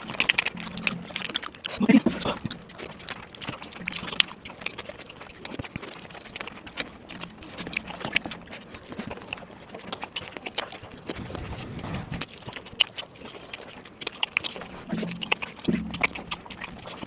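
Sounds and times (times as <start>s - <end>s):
person chewing and lip smacking: 0.0s - 17.0s.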